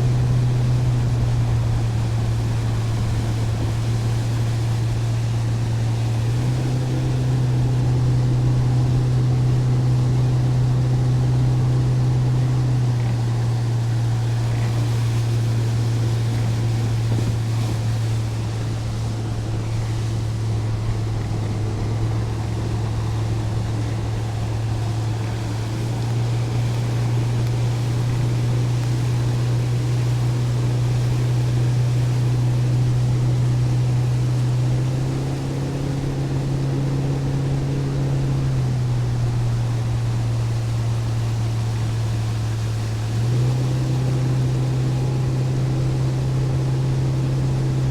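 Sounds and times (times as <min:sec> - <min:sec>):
boat motor running: 0:00.0 - 0:47.9
water rushing past: 0:00.0 - 0:47.9.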